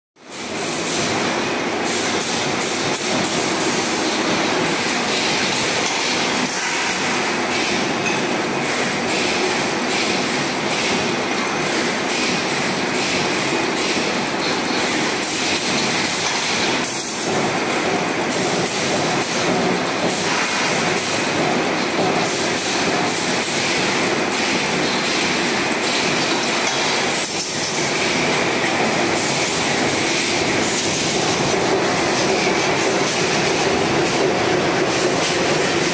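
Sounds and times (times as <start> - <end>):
wire bending machine clatter: 0.2 - 35.9.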